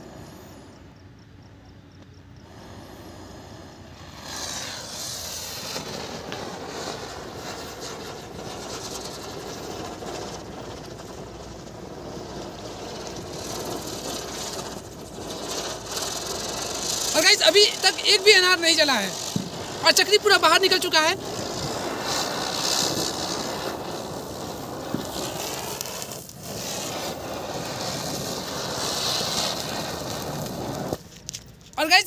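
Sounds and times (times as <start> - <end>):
spinner firework hissing: 0.0 - 1.2, 2.0 - 32.0.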